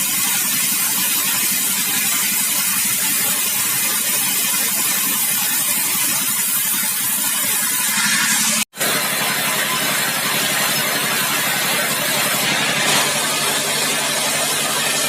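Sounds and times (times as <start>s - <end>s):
sawmill machinery hum and hiss: 0.0s - 15.0s.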